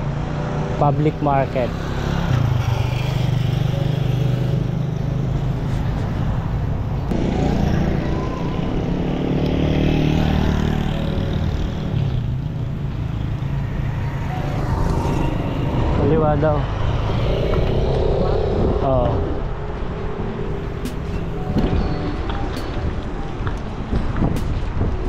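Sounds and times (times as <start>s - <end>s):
vehicle engines in traffic: 0.0s - 25.0s.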